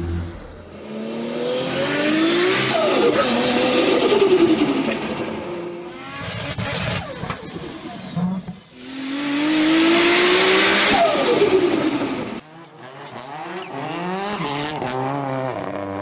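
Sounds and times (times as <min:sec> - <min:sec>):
turbocharged car engine revving: 0:00.0 - 0:07.3, 0:08.6 - 0:16.0.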